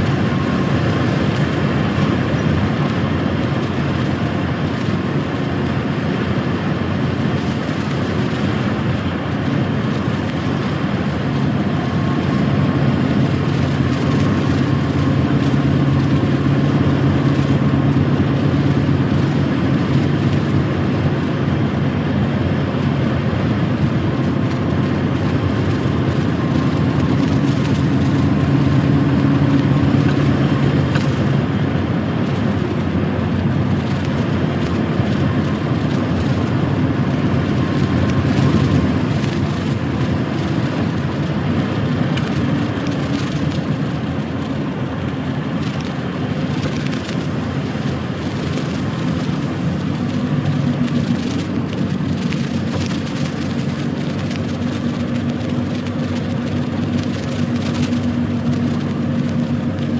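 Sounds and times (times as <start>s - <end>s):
truck diesel engine drone: 0.0s - 59.9s
tyre and road noise: 0.0s - 59.9s.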